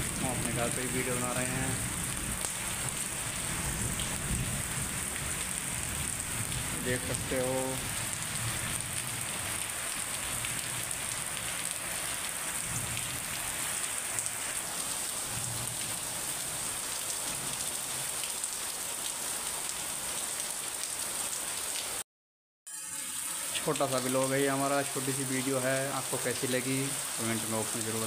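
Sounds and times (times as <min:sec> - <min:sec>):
heavy rain on concrete: 0:00.0 - 0:22.0, 0:23.1 - 0:28.0.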